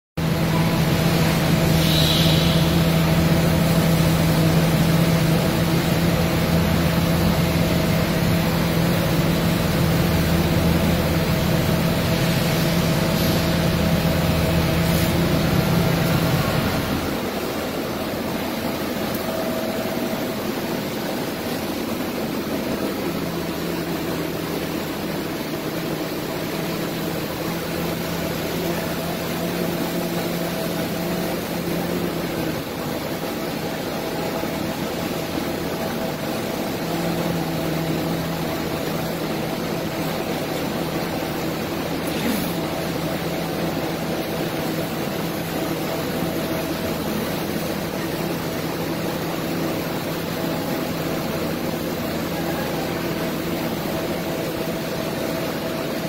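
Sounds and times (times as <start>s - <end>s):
laser cutting machine humming: 0.2s - 56.0s.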